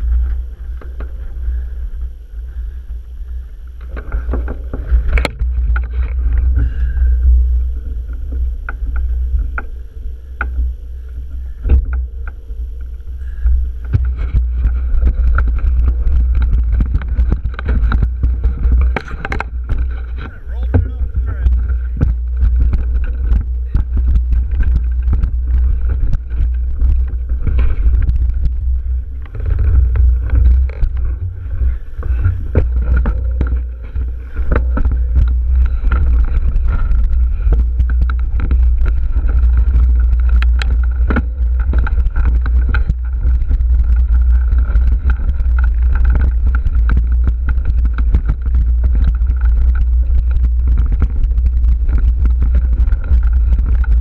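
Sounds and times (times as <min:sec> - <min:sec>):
bike rattling and knocking: 0:00.0 - 0:54.0
tyres on rocky dirt: 0:00.0 - 0:54.0
wind buffeting a camera: 0:00.0 - 0:54.0.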